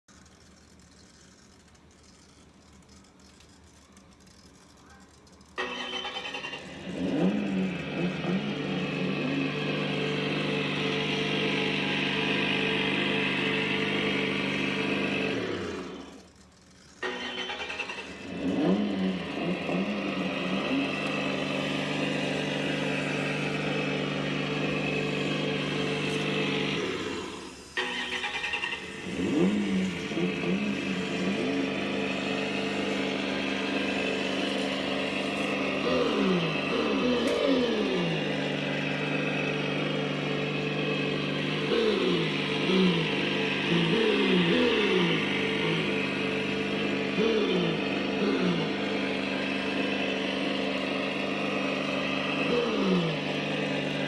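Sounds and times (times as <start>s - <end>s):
synthesized car engine revving: 0.0s - 54.0s.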